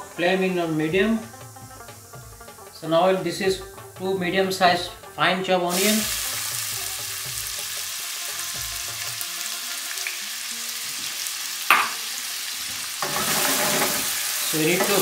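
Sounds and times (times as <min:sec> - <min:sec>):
onions sizzling in hot oil: 0:00.0 - 0:04.2, 0:05.7 - 0:15.0.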